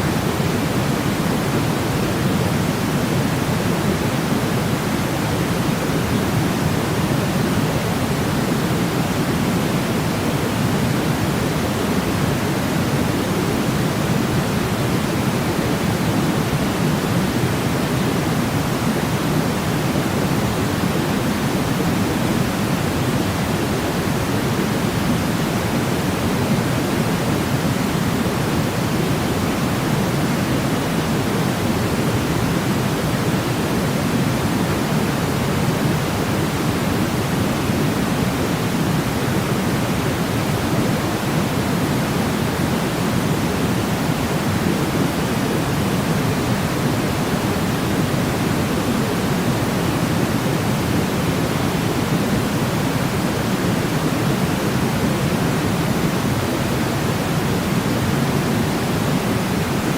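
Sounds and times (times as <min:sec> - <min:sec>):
steady white noise: 0:00.0 - 0:59.9.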